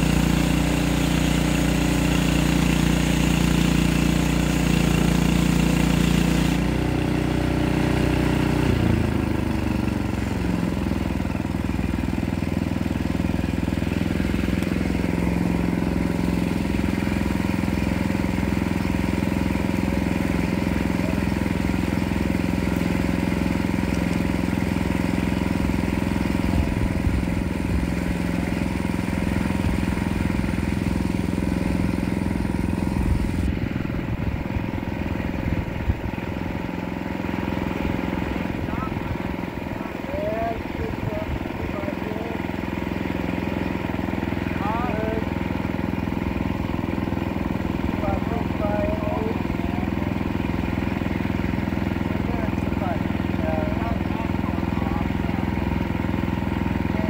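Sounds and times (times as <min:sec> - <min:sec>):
sawmill gas engine running: 0:00.0 - 0:57.0.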